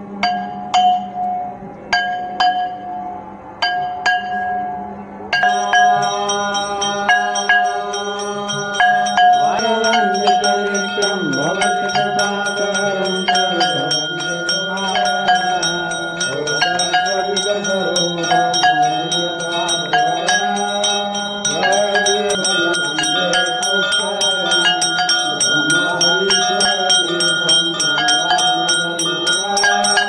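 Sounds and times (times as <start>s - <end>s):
hand bell ringing: 5.4s - 30.0s
person singing: 5.4s - 30.0s.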